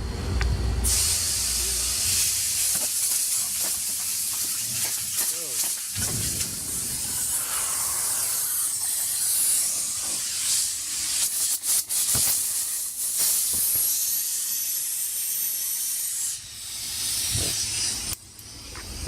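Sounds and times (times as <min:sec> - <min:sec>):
compressed air hissing from valve: 0:00.8 - 0:19.0.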